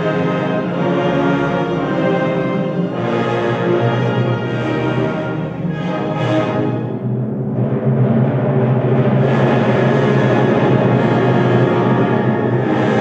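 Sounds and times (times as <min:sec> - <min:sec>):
symphony orchestra sustained chords: 0:00.0 - 0:13.0.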